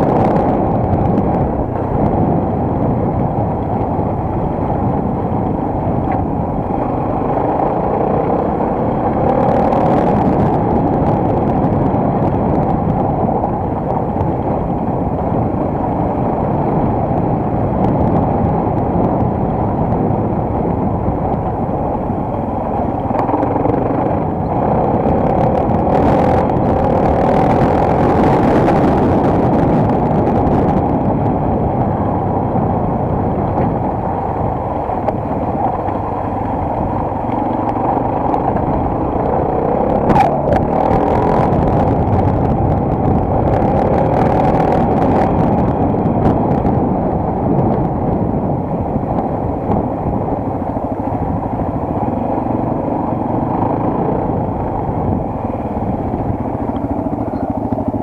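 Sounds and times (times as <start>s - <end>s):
motorcycle engine drone: 0.0s - 58.0s.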